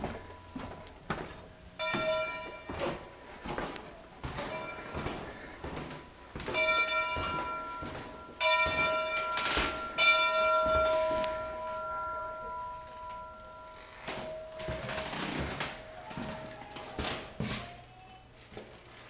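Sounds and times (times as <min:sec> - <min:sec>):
large metal bell ringing: 0:00.0 - 0:16.8.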